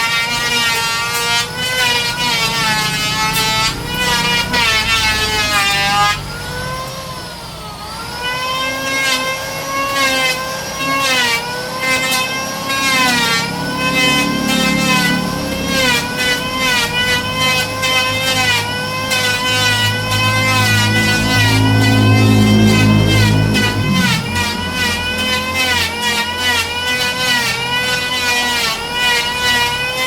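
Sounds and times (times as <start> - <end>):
power tool motor whining: 0.0 - 30.0.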